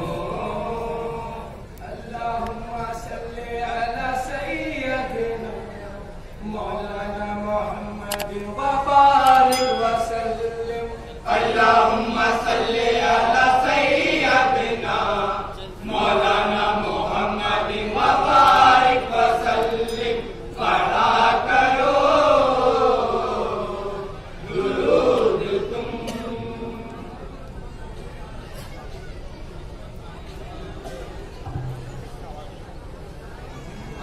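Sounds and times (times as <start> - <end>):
men chanting devotional song: 0.0 - 27.4.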